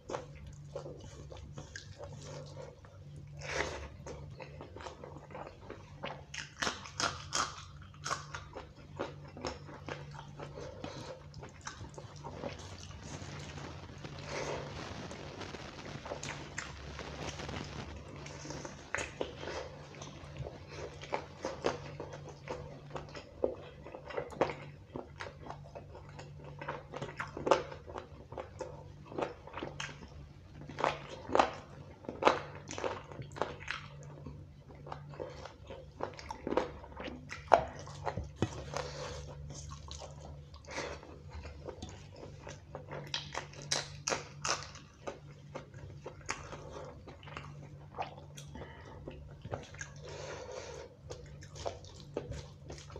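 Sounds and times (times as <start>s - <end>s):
faint low hum: 0.0s - 52.9s
man chewing and eating: 0.0s - 52.9s.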